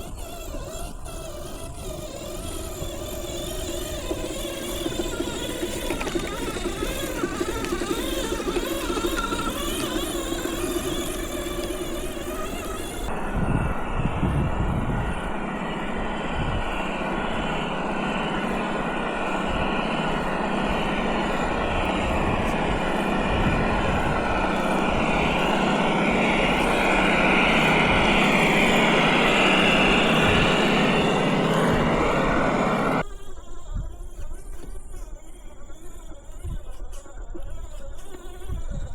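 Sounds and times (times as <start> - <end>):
electric drive whir: 0.0 - 38.9
simulated engine from small speaker: 0.0 - 38.9.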